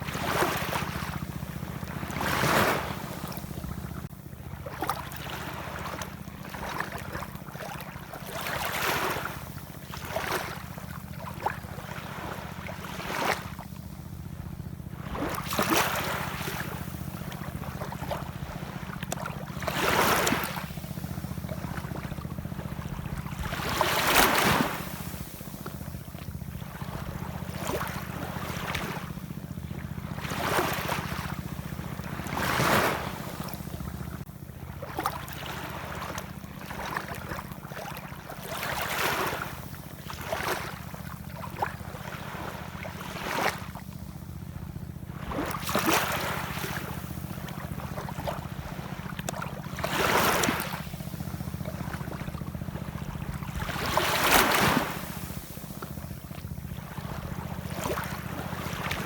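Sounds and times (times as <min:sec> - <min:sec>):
ocean waves washing in: 0:04.7 - 0:59.0.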